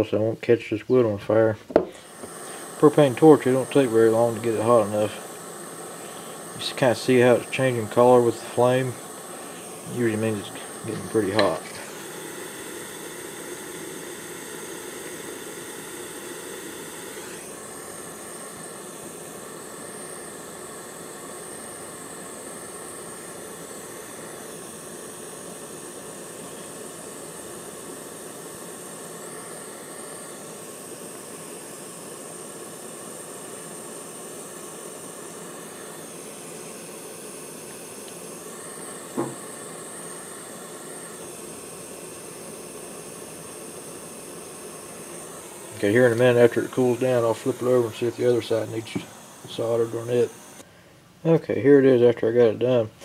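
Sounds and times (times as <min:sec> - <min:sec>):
torch flame hissing: 0:00.0 - 0:52.9.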